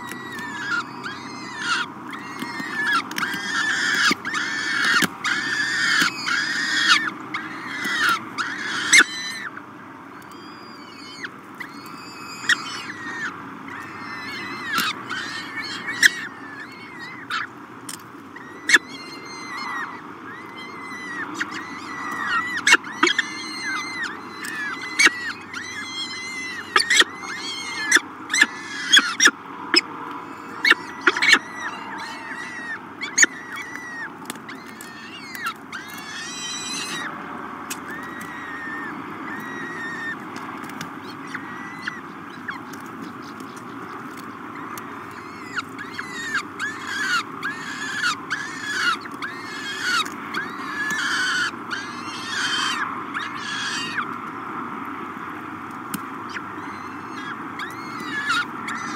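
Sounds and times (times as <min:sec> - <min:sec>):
falcon chicks begging calls: 0:00.0 - 0:58.9.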